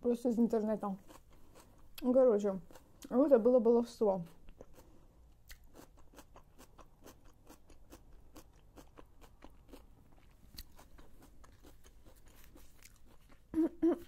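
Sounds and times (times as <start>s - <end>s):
chewing food: 0.9s - 3.2s, 4.2s - 13.5s.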